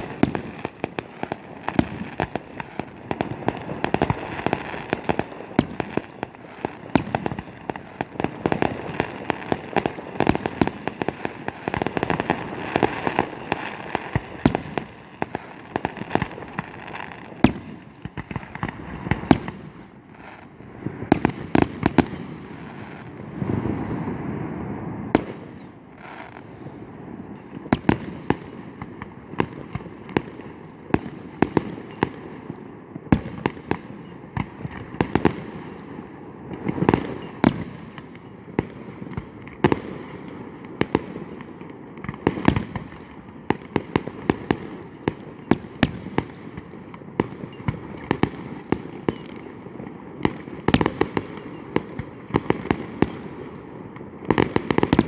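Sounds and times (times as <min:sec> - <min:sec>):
background noise: 0:00.0 - 0:55.0
fireworks bangs: 0:00.0 - 0:55.0.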